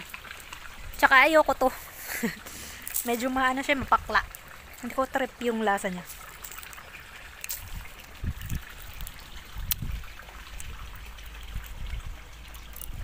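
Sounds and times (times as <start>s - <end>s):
water trickling from hose: 0.0s - 13.0s.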